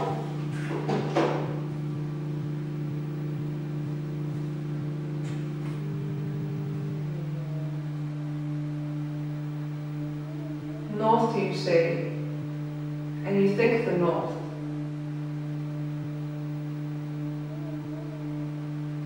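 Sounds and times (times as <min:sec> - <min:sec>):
low drone of held tones: 0:00.0 - 0:19.0.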